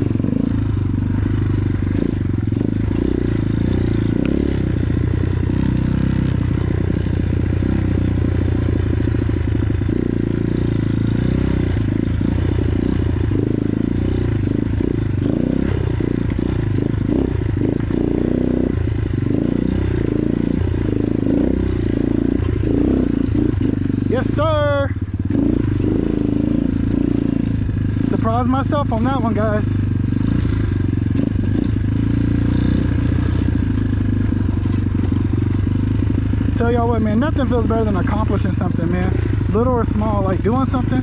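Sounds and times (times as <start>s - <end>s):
dirt bike engine running: 0.0s - 41.0s.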